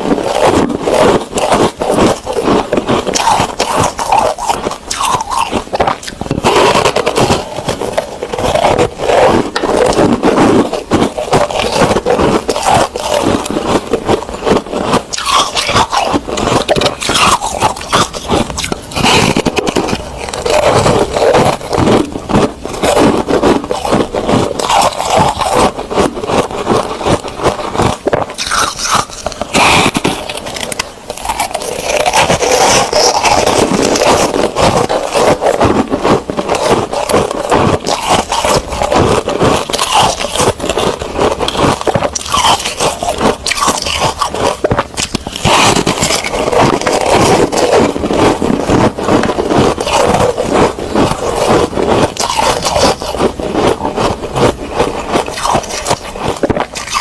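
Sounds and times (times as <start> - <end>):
chewing crunchy ice: 0.0 - 57.0.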